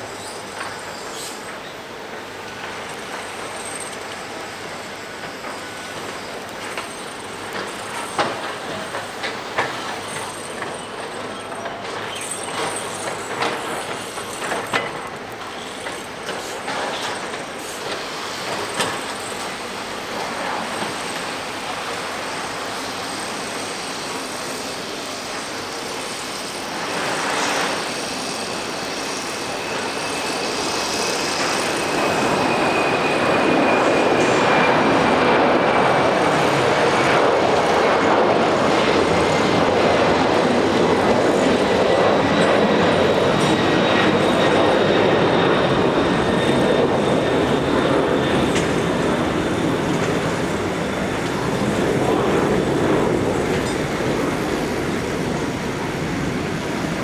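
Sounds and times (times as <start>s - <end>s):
high jet whine: 0.0s - 57.0s
jet engine roar: 0.0s - 57.0s.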